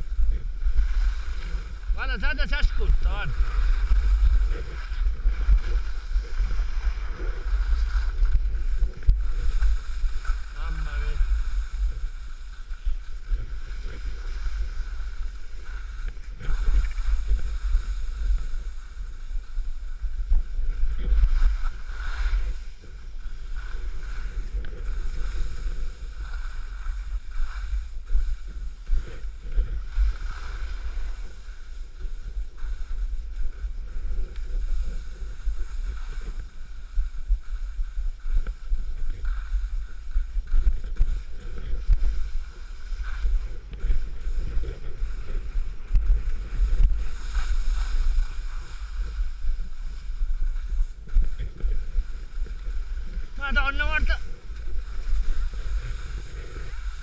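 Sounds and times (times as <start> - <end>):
skis scraping on snow: 0.0 - 57.0
wind buffeting microphone: 0.0 - 57.0.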